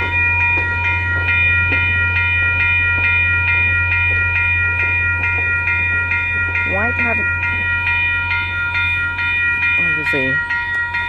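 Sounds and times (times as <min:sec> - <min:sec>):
level crossing warning bell ringing: 0:00.0 - 0:11.0.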